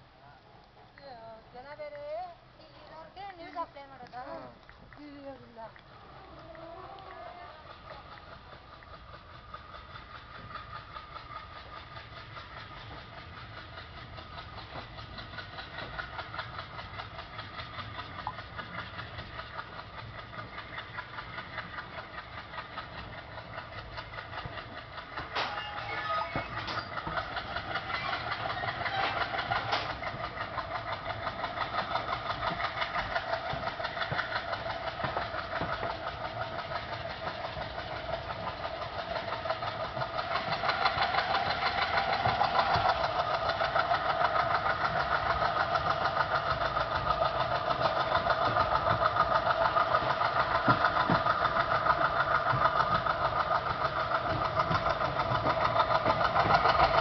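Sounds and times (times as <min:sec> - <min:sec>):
diesel locomotive engine chugging: 0:00.0 - 0:57.0.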